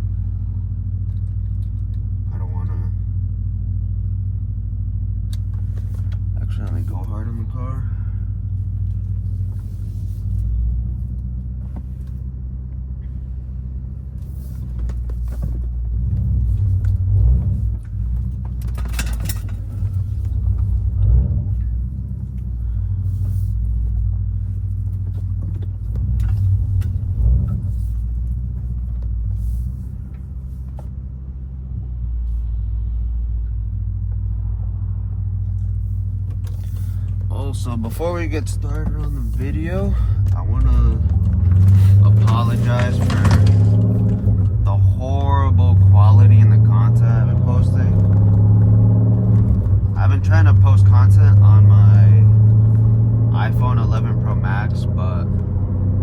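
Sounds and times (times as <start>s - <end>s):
car engine rumbling at low revs: 0.0s - 56.0s.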